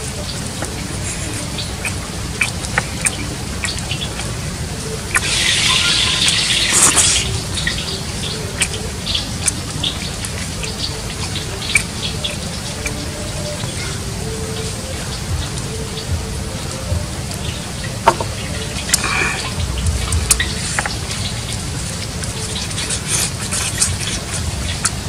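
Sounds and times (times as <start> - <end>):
wet chewing clicks and smacks: 0.0 - 15.7, 18.1 - 25.0
loud hiss: 0.0 - 25.0
low background noise: 0.0 - 25.0.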